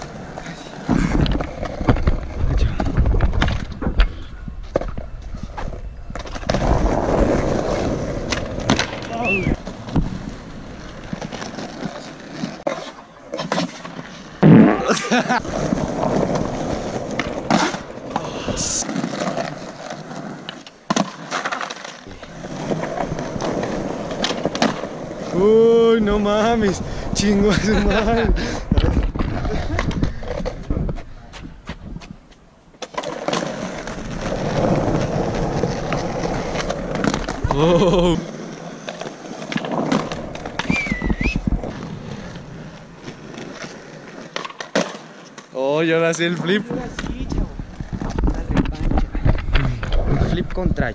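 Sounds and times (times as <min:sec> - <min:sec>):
skateboard clacking on ground: 0:00.0 - 0:14.2, 0:15.4 - 0:25.4, 0:28.6 - 0:50.6
skateboard wheels rolling on concrete: 0:00.0 - 0:50.9.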